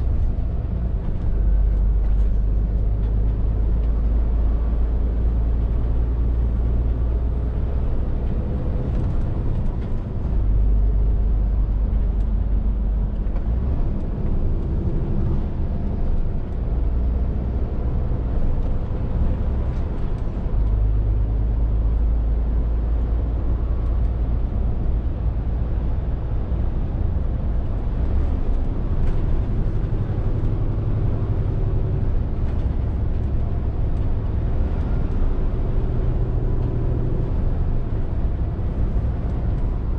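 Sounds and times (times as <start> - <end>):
truck diesel engine drone: 0.0 - 39.9
tyre and road noise: 0.0 - 39.9.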